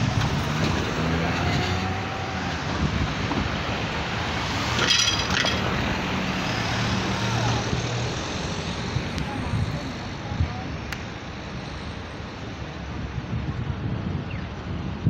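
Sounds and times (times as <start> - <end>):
vehicles driving past: 0.0 - 14.8.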